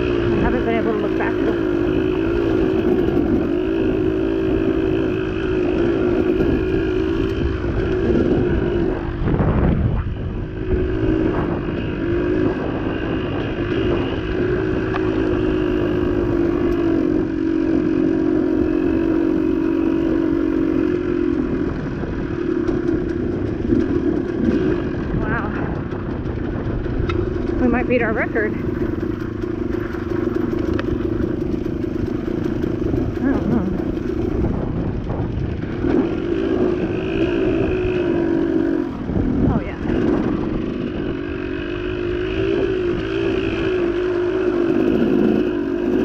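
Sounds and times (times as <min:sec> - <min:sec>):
off-road vehicle engine running: 0:00.0 - 0:46.0.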